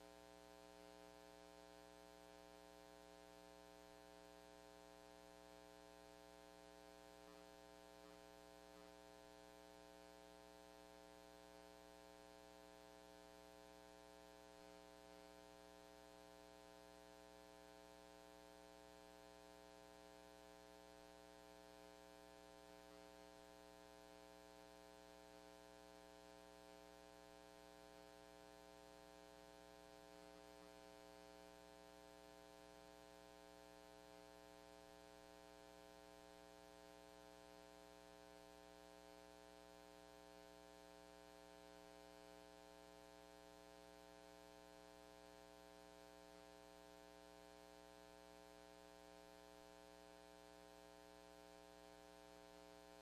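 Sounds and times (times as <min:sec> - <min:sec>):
faint electrical hum: 0:00.0 - 0:53.0.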